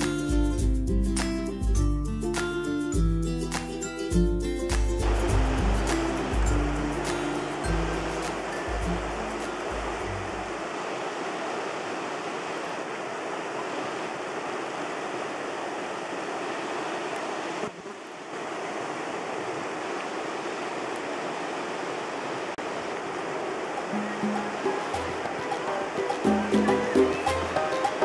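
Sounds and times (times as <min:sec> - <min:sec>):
river rapids rushing: 0:05.0 - 0:28.0.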